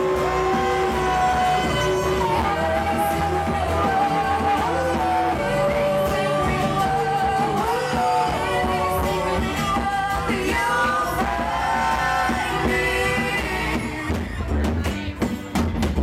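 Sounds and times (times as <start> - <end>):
person singing: 0.0 - 15.2
folk-rock band playing live: 0.0 - 16.0.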